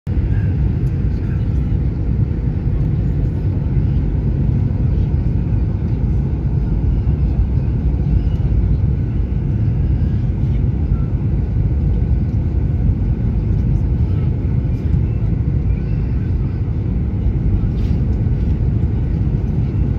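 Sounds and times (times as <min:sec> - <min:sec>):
airliner cabin engine rumble: 0:00.1 - 0:19.9.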